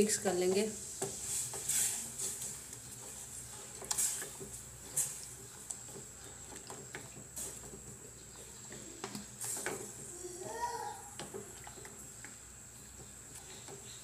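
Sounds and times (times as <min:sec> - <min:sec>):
spatula stirring in saucepan: 0:00.0 - 0:14.0.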